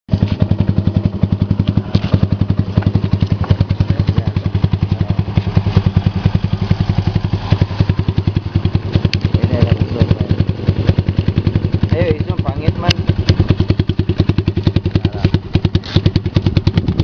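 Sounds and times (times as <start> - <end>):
motorcycle engine idling: 0.1 - 17.0.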